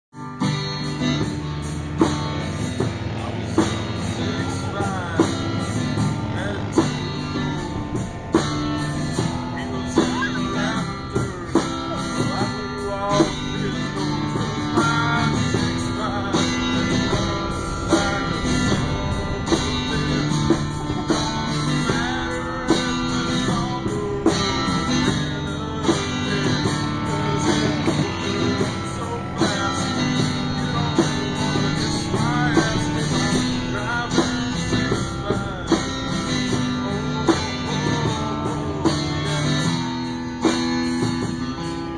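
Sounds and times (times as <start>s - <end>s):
guitar song with singing: 0.1s - 41.9s.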